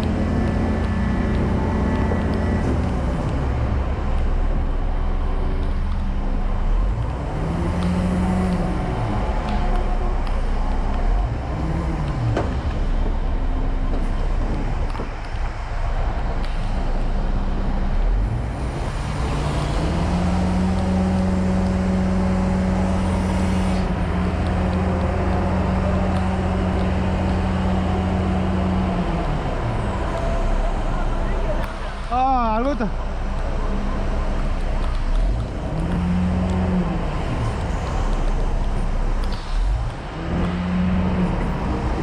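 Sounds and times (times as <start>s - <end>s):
diesel truck engine revving: 0.0s - 42.0s.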